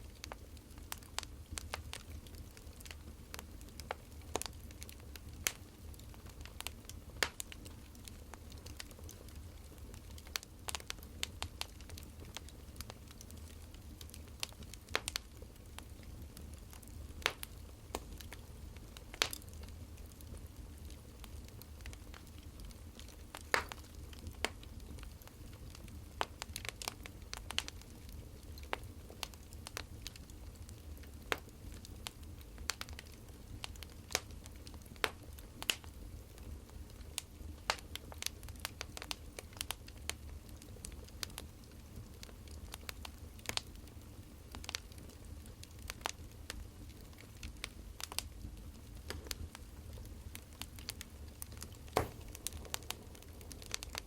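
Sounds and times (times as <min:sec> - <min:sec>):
firewood crackling: 0:00.0 - 0:54.0.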